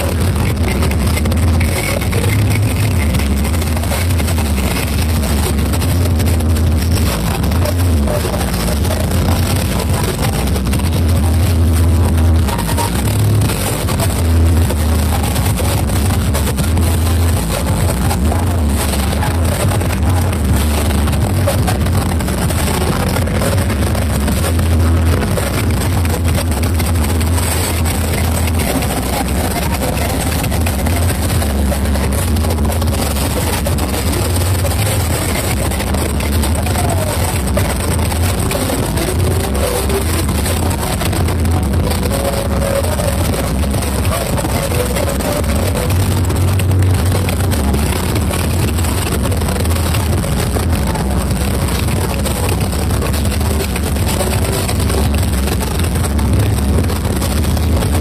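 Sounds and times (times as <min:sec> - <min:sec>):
distorted bass from sound systems: 0:00.0 - 0:58.0.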